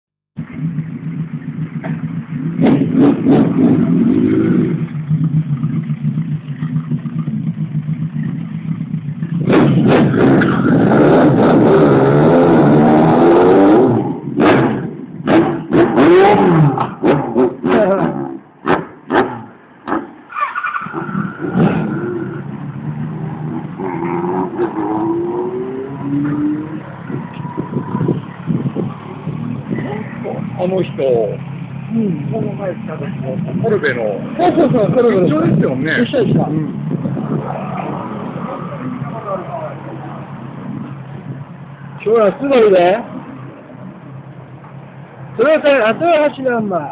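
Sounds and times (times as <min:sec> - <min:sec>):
motorcycle engine idling and revving: 0:00.3 - 0:46.9
road traffic passing: 0:00.4 - 0:46.9.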